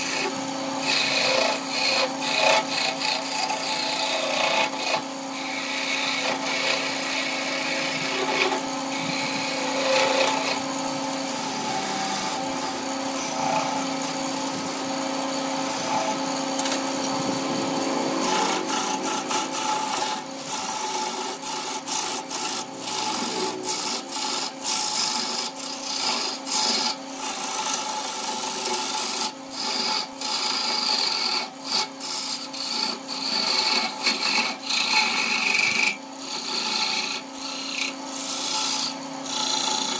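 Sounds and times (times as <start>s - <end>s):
lathe humming: 0.0s - 39.9s
turning tool scraping wood: 0.0s - 39.9s.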